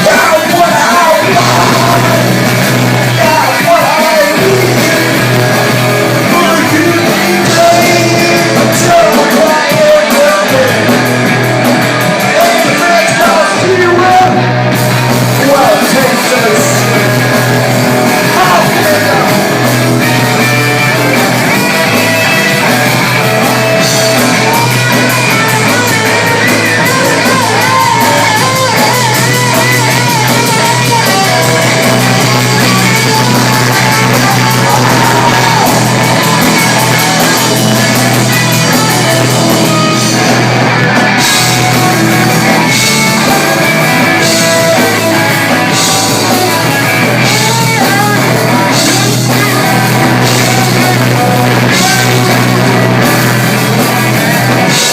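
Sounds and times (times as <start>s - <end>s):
person singing or shouting: 0.0s - 11.0s, 12.2s - 14.6s, 15.4s - 54.9s
punk rock band playing live: 0.0s - 54.9s.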